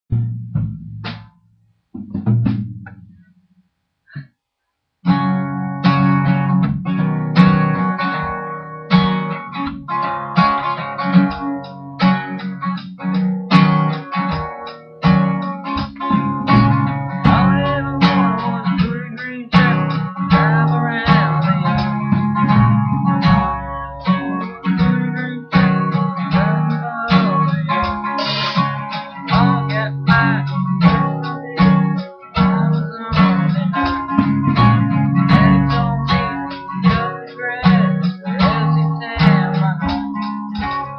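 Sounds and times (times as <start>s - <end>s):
acoustic guitar strumming: 0.1s - 3.5s, 5.0s - 40.9s.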